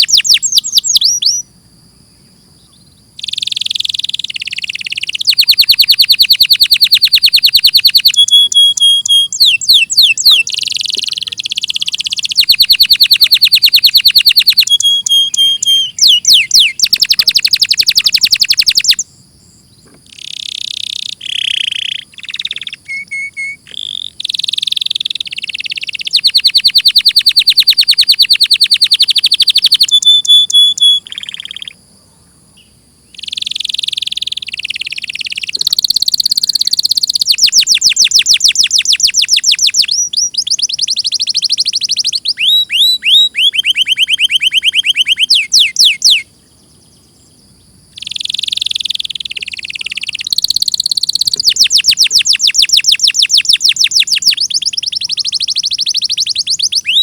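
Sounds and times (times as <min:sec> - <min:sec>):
canary singing trills: 0:00.0 - 0:31.8, 0:32.5 - 0:57.0.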